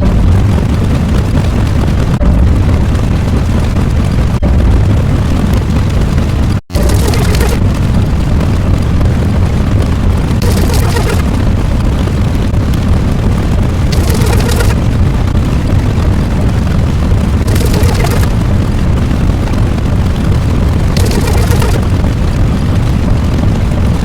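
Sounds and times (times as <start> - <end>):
deep rumbling explosion noise: 0.0 - 24.0.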